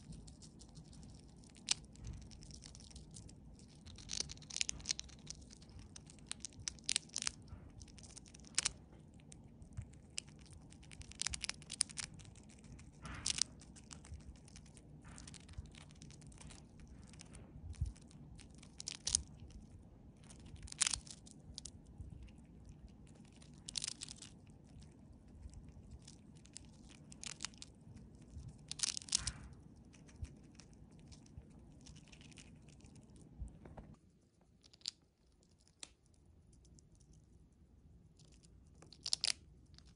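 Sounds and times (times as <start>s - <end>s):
chipmunk crunching chip: 0.0s - 33.4s, 34.5s - 37.3s, 38.1s - 39.9s
faint low hum: 0.0s - 39.9s.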